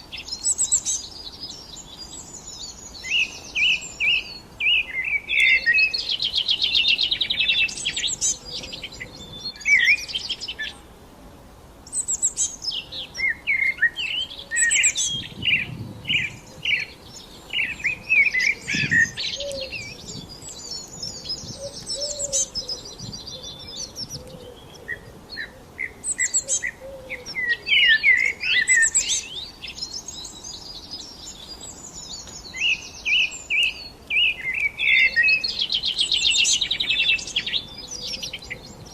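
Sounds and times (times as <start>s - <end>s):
songbirds chirping and singing: 0.0s - 11.0s, 11.8s - 38.9s.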